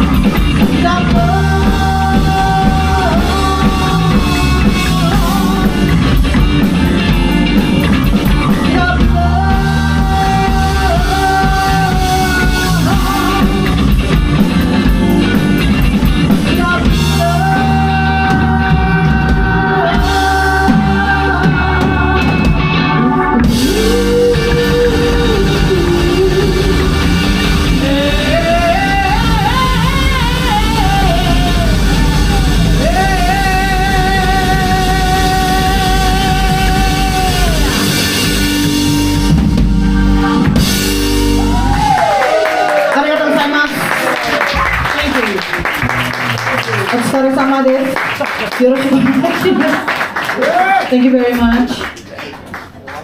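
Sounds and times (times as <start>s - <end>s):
drum kit: 0.0s - 50.8s
electric guitar: 0.0s - 52.7s
live rock band playing: 0.0s - 52.7s.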